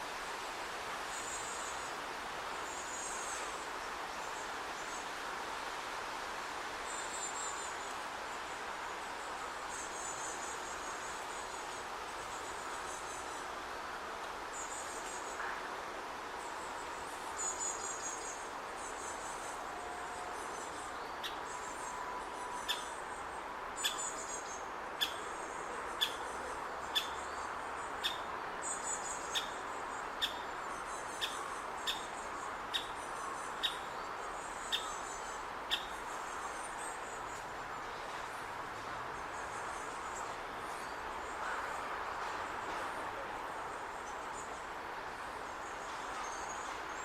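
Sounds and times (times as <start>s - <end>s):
background hiss: 0.0s - 47.0s.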